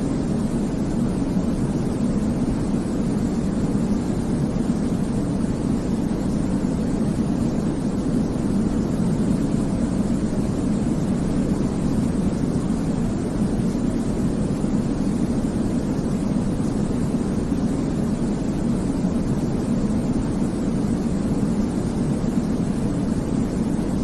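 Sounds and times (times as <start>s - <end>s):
deep low white noise: 0.0s - 24.0s.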